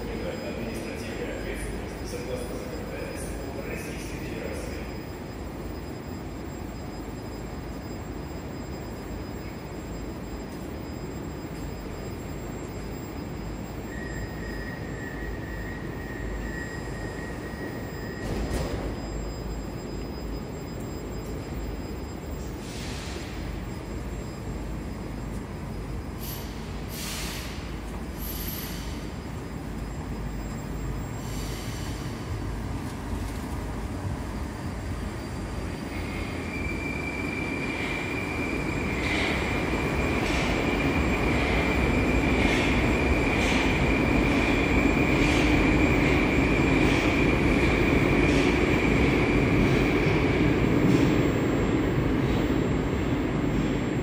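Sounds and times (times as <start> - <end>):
high whine: 0.0 - 54.0
train running low rumble: 0.0 - 54.0.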